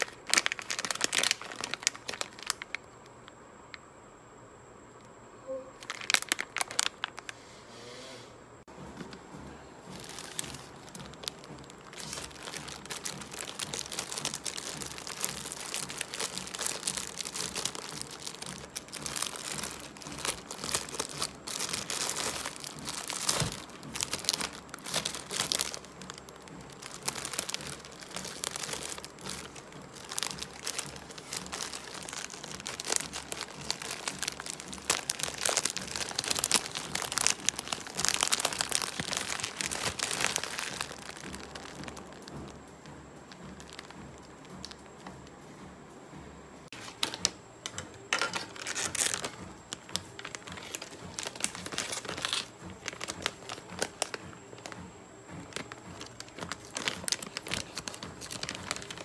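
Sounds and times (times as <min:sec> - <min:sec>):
plastic packaging crinkling: 0:00.0 - 0:03.8, 0:05.8 - 0:07.4, 0:09.8 - 0:45.1, 0:46.7 - 0:59.0.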